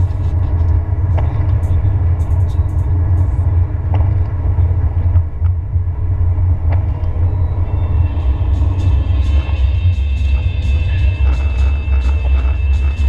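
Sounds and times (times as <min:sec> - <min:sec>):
car driving on wet road: 0:00.0 - 0:13.0.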